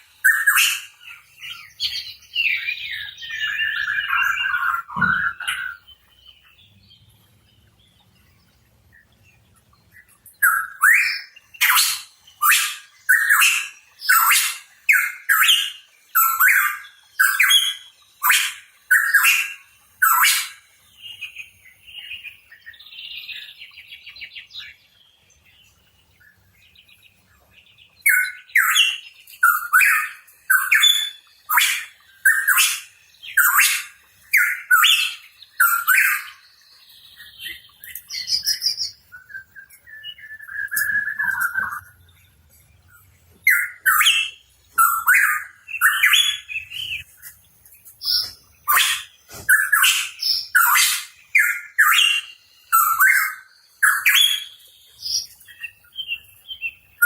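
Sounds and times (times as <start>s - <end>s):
soft bird twittering: 0.0s - 57.0s.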